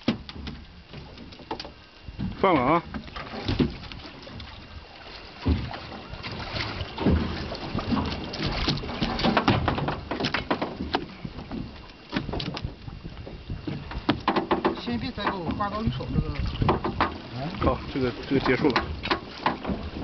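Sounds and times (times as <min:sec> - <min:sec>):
water rushing: 0:00.0 - 0:20.0
wind: 0:00.0 - 0:20.0.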